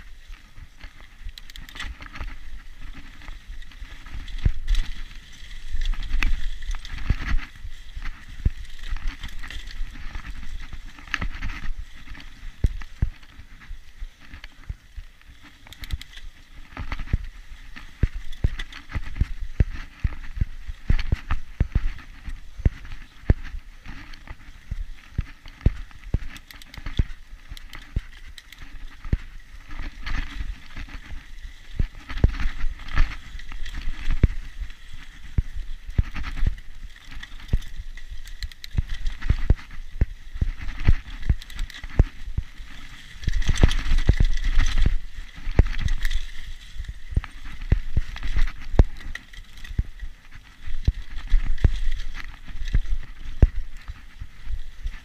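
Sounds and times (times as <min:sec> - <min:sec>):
bike knocking and rattling: 0:00.0 - 0:55.0.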